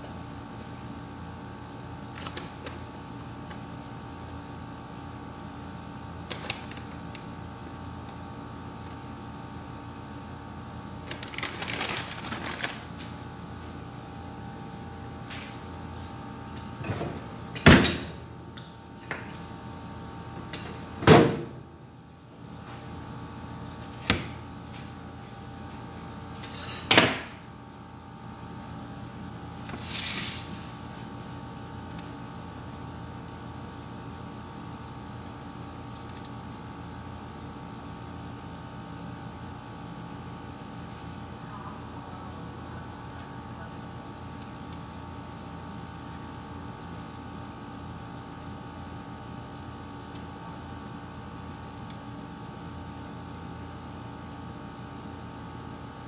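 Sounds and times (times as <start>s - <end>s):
appliance hum: 0.0s - 56.0s.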